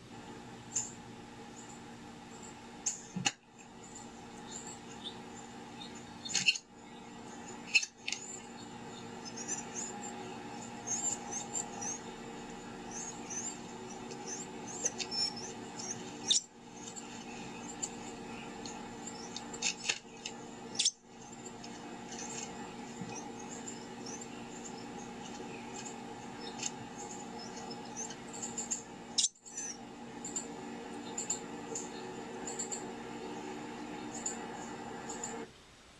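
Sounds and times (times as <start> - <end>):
low steady hum: 0.0 - 35.9
wren chirping: 3.8 - 34.8.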